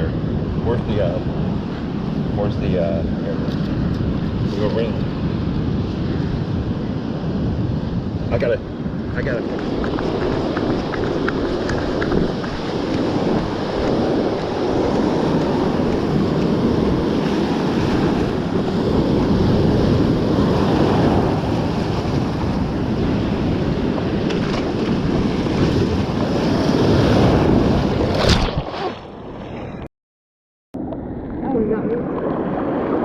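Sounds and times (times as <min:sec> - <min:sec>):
wind buffeting microphone: 0:00.0 - 0:28.7
ocean surf breaking: 0:00.0 - 0:29.7, 0:30.8 - 0:33.0.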